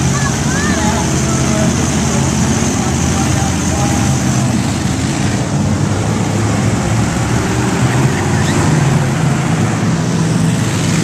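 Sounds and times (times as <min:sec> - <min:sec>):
monster truck engine running: 0:00.0 - 0:11.0.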